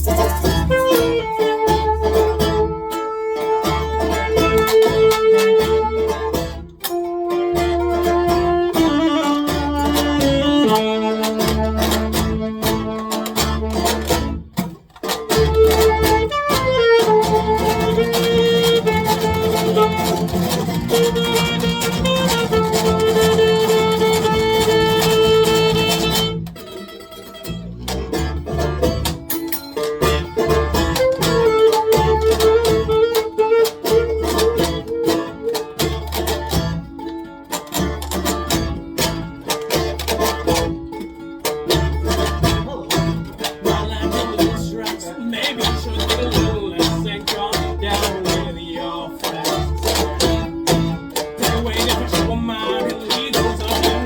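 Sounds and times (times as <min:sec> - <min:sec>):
folk band playing: 0:00.0 - 0:54.0.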